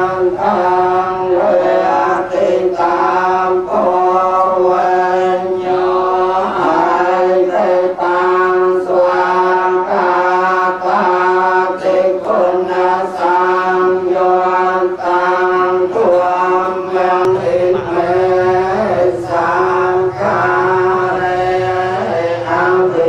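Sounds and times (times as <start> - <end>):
group chanting in unison: 0.0 - 23.0.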